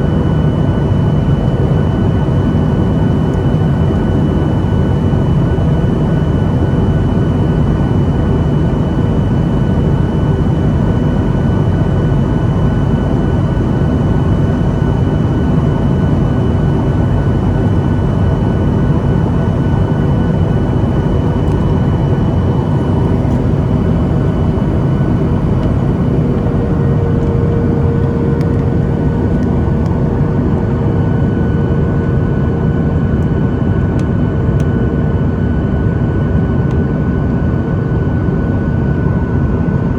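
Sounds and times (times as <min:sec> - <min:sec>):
jet engine rumble and whine: 0:00.0 - 0:39.9.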